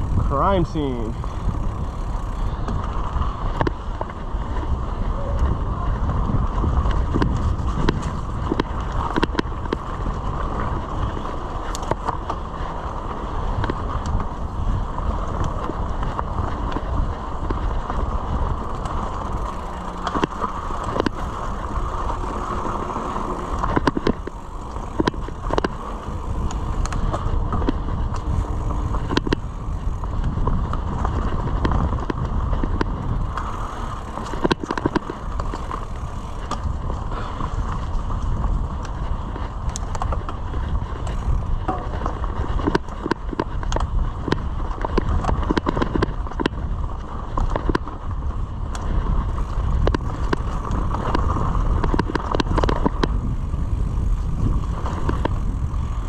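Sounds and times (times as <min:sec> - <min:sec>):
bike rattling over bumps: 0:00.0 - 0:56.0
tyres on dirt: 0:00.0 - 0:56.0.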